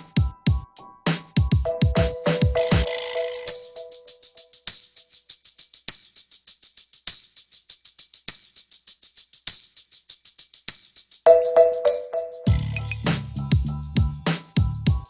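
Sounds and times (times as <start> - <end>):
jingly percussion music: 0.0 - 15.0.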